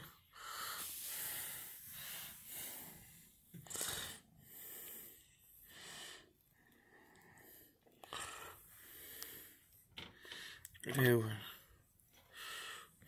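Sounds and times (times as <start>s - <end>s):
close breathing: 0.0s - 13.0s.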